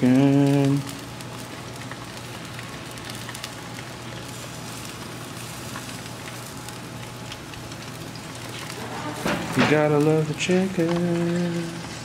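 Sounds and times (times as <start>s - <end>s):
barbecue grill sizzling: 0.0s - 12.0s
low steady hum: 0.0s - 12.0s.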